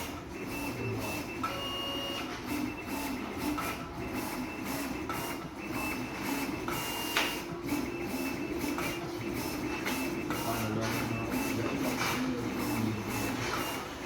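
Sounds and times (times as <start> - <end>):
cutting plotter motors whining: 0.0 - 14.0.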